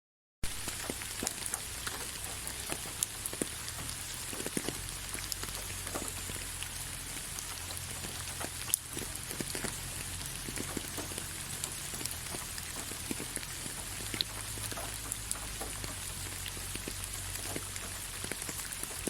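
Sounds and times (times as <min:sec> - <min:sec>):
rain falling on leaves: 0:00.4 - 0:19.0
raindrops ticking: 0:00.4 - 0:19.0.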